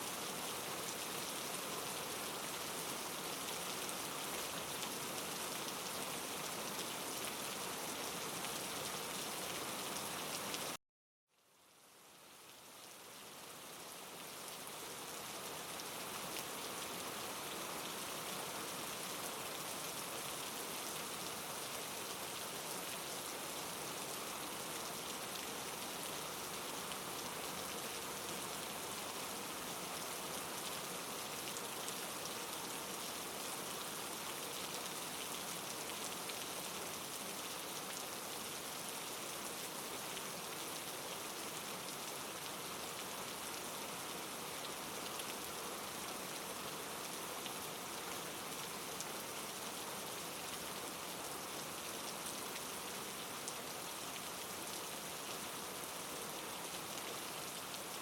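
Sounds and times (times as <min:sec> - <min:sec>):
rain falling: 0:00.0 - 0:10.8, 0:11.4 - 0:58.0.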